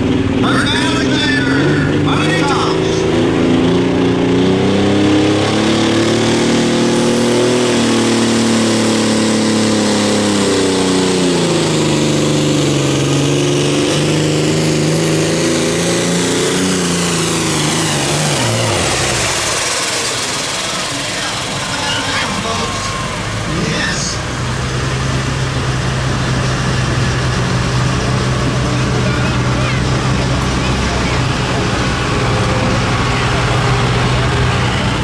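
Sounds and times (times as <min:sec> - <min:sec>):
pulling engine at high revs: 0:00.0 - 0:35.0.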